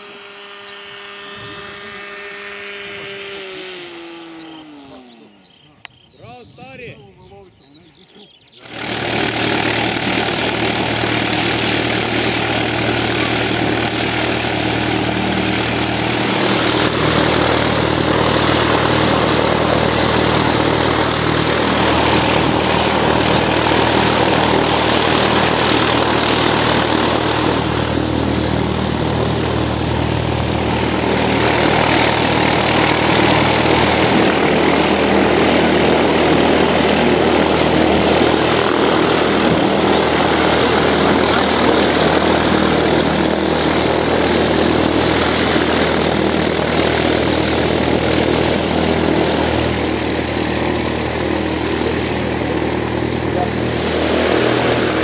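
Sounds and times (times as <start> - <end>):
model plane engine running: 0.0 - 55.0
propeller whirring: 0.0 - 55.0.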